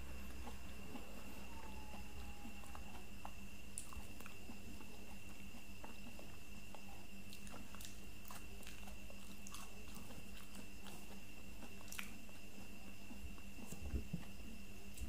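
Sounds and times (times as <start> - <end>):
faint background hum: 0.0 - 15.0
person chewing soft fruit: 0.0 - 15.0.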